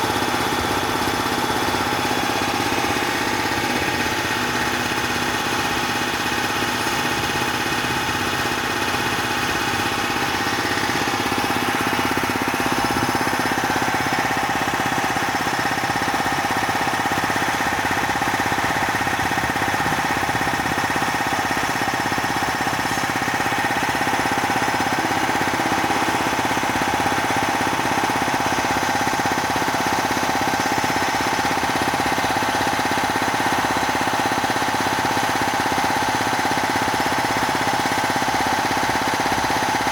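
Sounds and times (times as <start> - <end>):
air compressor pulsing whine: 0.0 - 39.9.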